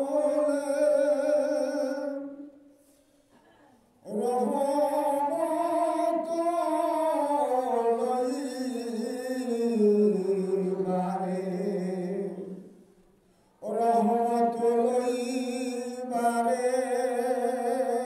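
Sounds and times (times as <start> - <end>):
man chanting: 0.0 - 2.6, 4.0 - 12.8, 13.6 - 18.0.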